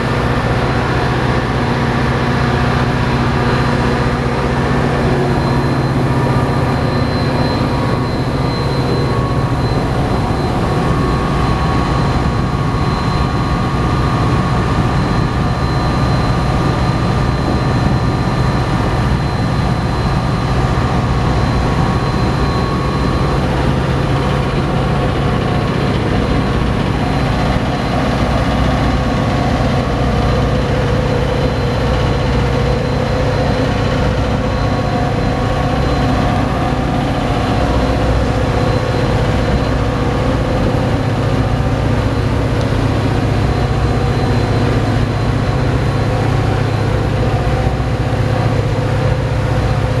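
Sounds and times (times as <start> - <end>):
diesel locomotive idling: 0.0 - 50.0
steady higher tones: 1.2 - 49.5.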